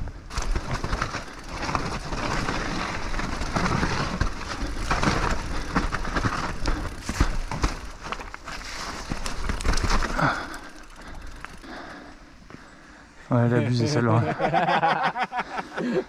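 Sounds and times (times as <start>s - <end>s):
bike clicks and rattles: 0.0s - 13.0s.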